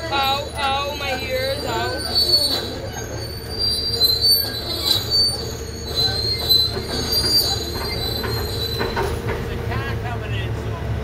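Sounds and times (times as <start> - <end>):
excavator tracks squealing: 0.0 - 9.8.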